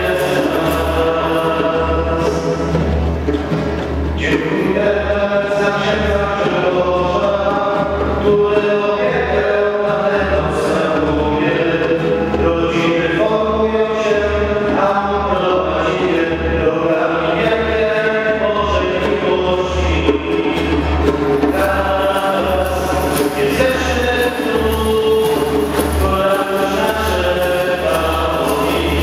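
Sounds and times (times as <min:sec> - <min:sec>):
many voices singing a hymn: 0:00.0 - 0:02.8, 0:04.2 - 0:29.0
acoustic guitar: 0:00.0 - 0:29.0
hand drum: 0:00.0 - 0:29.0.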